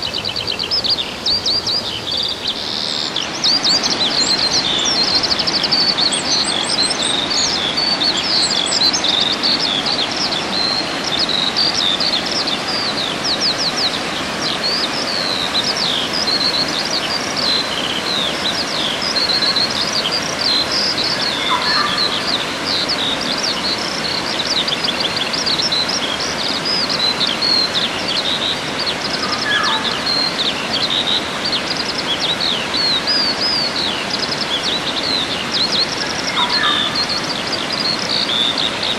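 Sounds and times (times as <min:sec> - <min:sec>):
songbirds chirping and trilling: 0:00.0 - 0:38.9
steady rushing background noise: 0:00.0 - 0:38.9.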